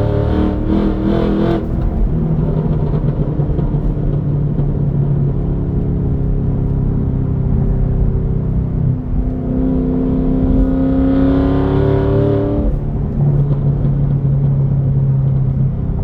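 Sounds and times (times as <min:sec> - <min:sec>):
car engine revving and droning: 0:00.0 - 0:16.0.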